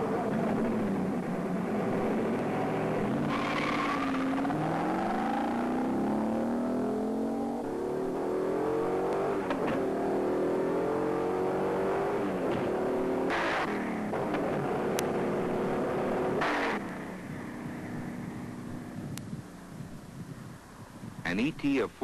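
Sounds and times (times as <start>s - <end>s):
car engine accelerating hard: 0.0s - 19.2s.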